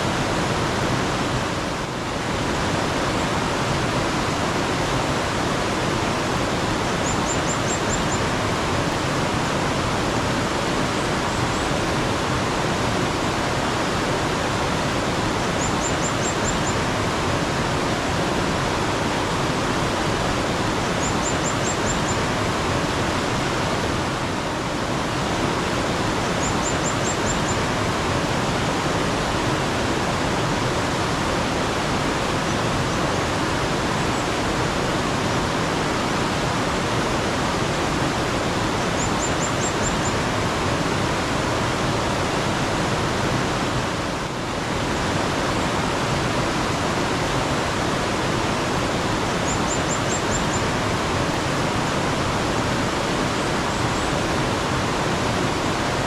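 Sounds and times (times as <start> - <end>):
flowing mountain stream: 0.0 - 56.0.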